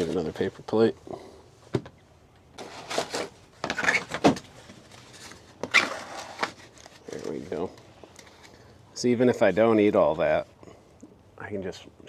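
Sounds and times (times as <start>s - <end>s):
objects rustling and scraping: 0.0s - 2.0s, 2.6s - 10.9s.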